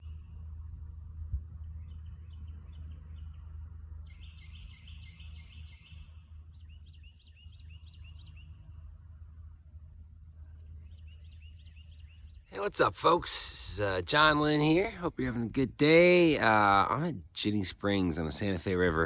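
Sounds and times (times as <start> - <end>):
songbird chirping: 0.0 - 18.8
steady low rumble: 0.0 - 19.0.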